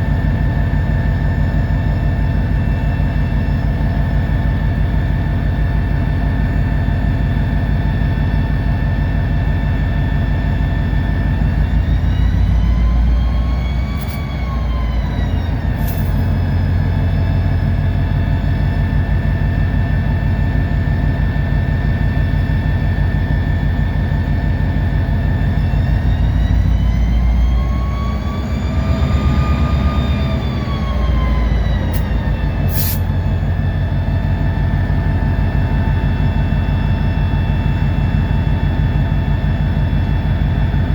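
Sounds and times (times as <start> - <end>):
diesel locomotive engine running: 0.0 - 40.9.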